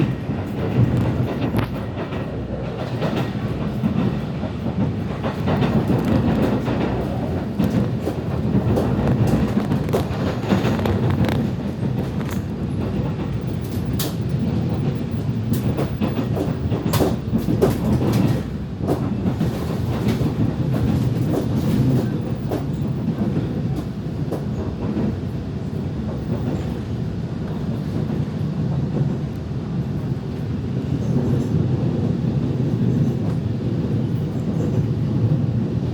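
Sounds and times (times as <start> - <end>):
train rumbling on rails: 0.0 - 35.9
train wheels clicking: 0.0 - 35.9.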